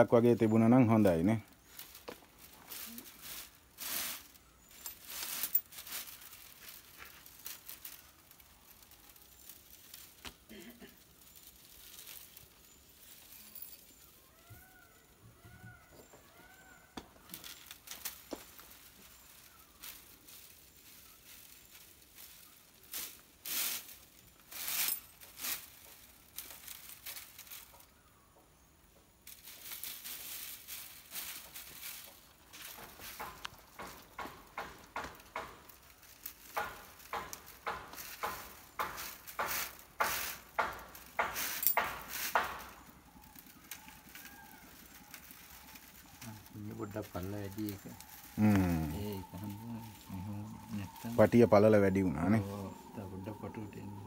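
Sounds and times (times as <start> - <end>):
dry sticks rustling and clicking: 0.9 - 28.4, 29.2 - 54.0.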